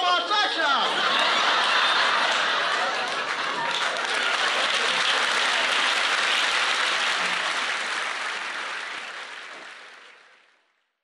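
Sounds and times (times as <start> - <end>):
audience applause: 0.9 - 10.8.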